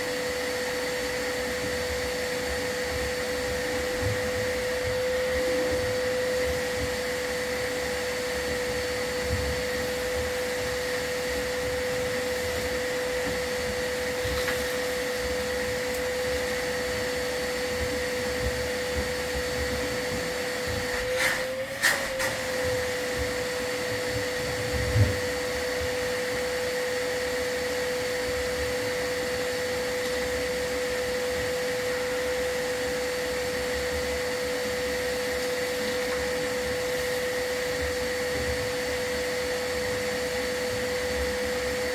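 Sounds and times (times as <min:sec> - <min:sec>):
vacuum motor whine: 0:00.0 - 0:41.9.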